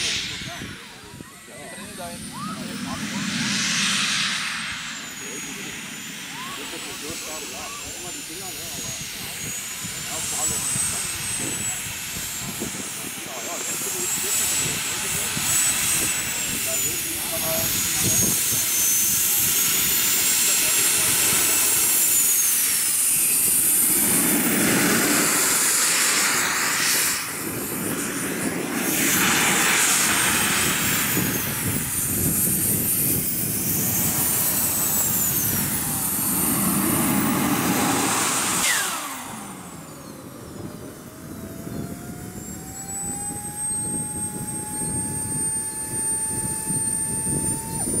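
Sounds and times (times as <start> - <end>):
low electric starter whine: 0.0 - 48.0
model jet turbine whining: 0.0 - 48.0.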